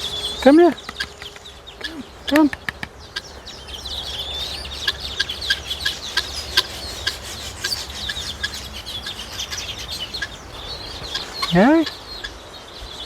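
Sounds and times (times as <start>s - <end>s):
birds chirping and clucking: 0.0s - 13.0s.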